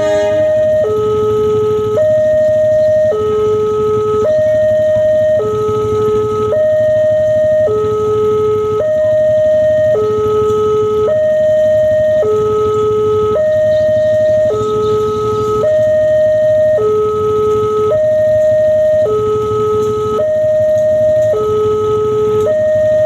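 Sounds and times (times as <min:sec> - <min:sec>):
two-tone siren: 0:00.0 - 0:23.0.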